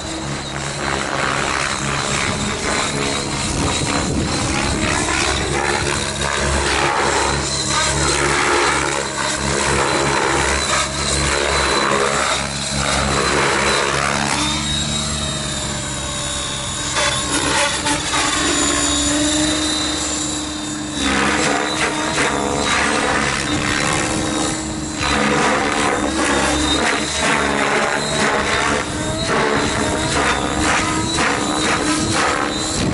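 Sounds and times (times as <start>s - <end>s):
model helicopter motor whine: 0.0s - 32.9s
rotor blades whooshing: 0.0s - 32.9s.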